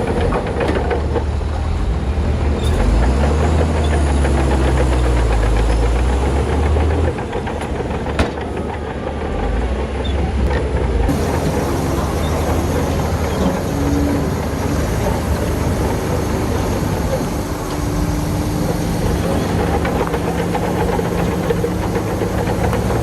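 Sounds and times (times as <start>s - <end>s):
diesel machinery engine drone: 0.0s - 23.0s.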